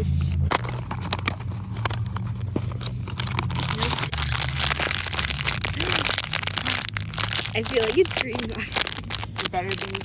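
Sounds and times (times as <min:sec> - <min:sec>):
cardboard packaging opened: 0:00.5 - 0:10.0
foil bag crinkling: 0:00.6 - 0:10.0.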